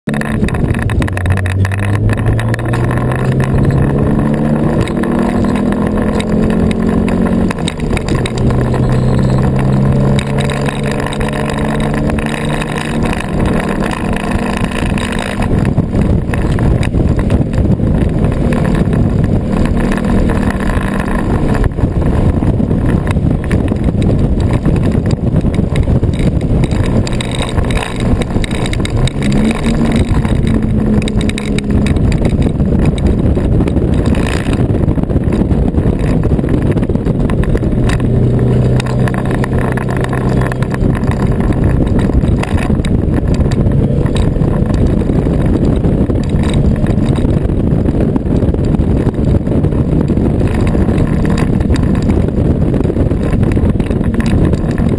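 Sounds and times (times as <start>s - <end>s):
car engine accelerating: 0.0s - 54.9s
road and wind noise: 0.0s - 54.9s
rattling camera housing buzz: 0.1s - 54.9s.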